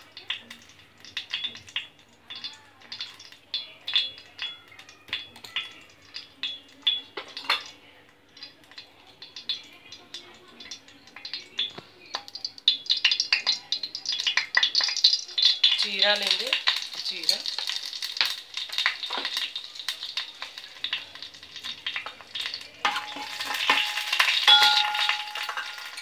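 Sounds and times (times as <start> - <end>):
ghee crackling and sizzling in pan: 0.0 - 26.0.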